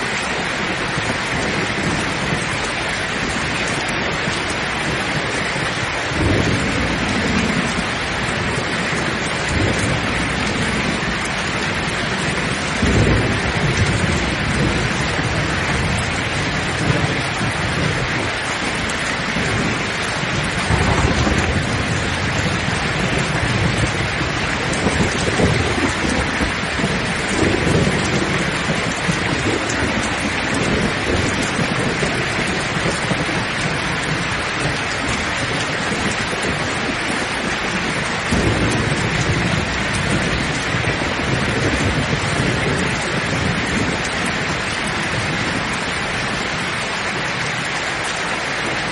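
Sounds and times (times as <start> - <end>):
heavy rain falling: 0.0 - 48.9
low rolls of thunder: 0.0 - 48.9.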